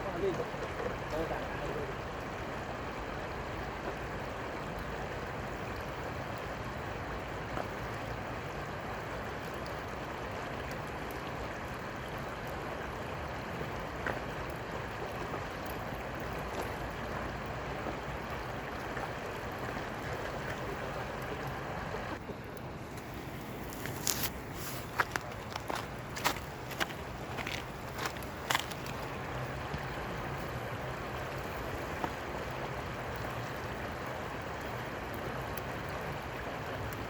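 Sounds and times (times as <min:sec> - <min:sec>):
river water rushing: 0:00.0 - 0:37.0.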